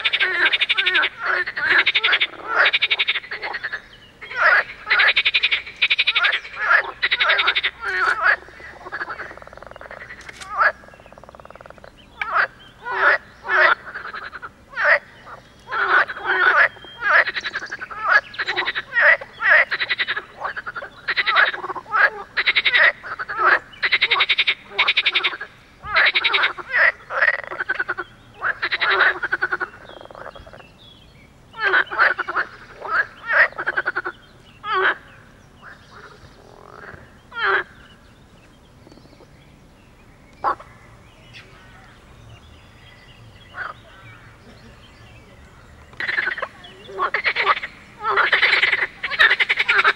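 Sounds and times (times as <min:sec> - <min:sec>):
frogs croaking in chorus: 0:00.0 - 0:49.9.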